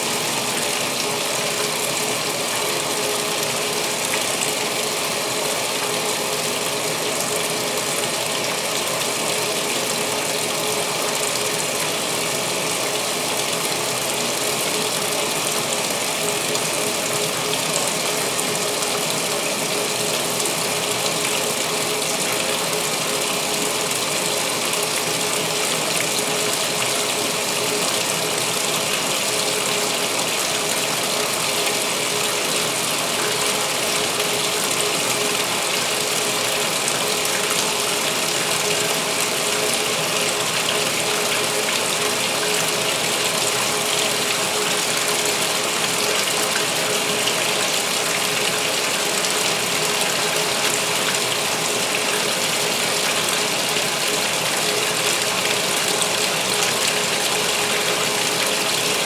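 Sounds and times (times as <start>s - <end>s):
water pouring into washer tub: 0.0s - 59.0s.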